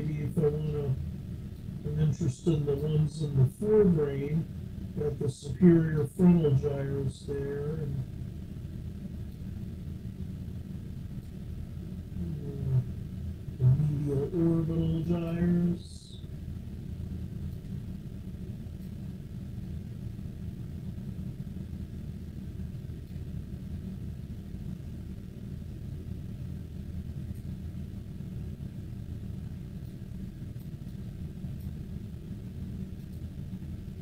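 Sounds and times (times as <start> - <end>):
low background rumble: 0.0 - 34.0.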